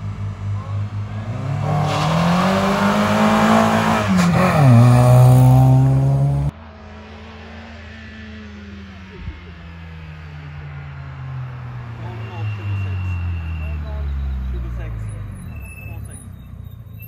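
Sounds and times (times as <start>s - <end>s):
rally car engine revving: 0.0s - 16.3s.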